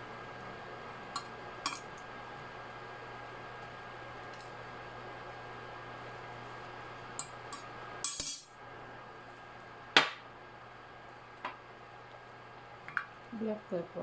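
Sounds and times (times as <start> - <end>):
cooktop low hum: 0.0 - 14.0.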